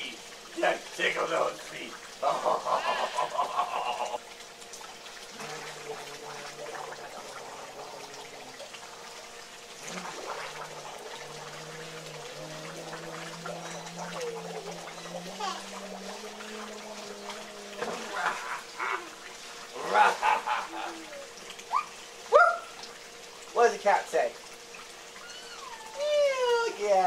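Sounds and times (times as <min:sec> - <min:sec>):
waterfall splashing into pool: 0:00.0 - 0:27.0.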